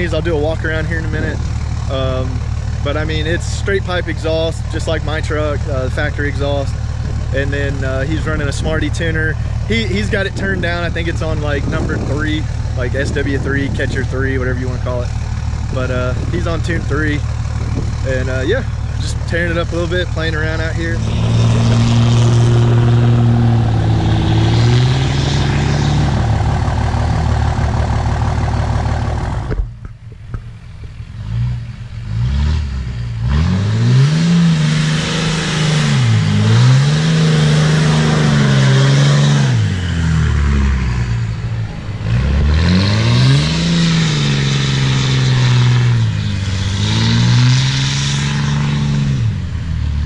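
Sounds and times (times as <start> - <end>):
diesel truck engine revving: 0.0 - 29.8, 30.9 - 50.0.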